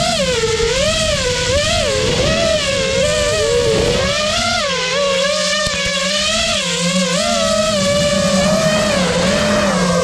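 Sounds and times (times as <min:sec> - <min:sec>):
drone motors whining: 0:00.0 - 0:10.0
steady low hum: 0:00.0 - 0:10.0.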